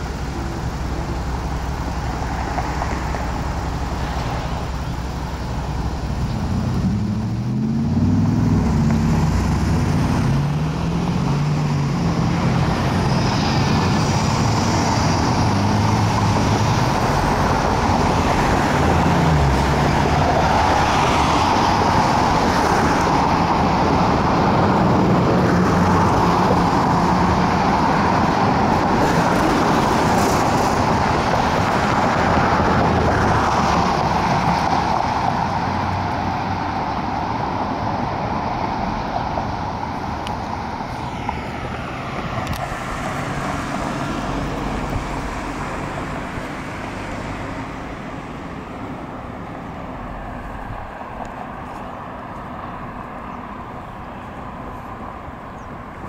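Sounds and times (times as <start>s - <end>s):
cars passing: 0.0s - 56.0s
vehicle engines humming: 0.0s - 56.0s.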